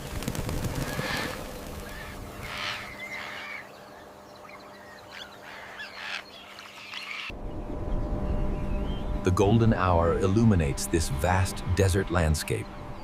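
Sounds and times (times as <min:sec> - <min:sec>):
birds calling: 0:00.0 - 0:13.0
low steady hum: 0:00.0 - 0:13.0.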